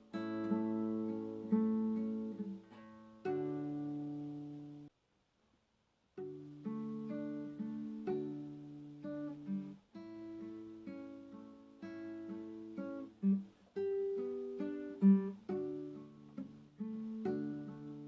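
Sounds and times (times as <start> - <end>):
acoustic guitar playing: 0.0 - 4.9, 6.2 - 18.0.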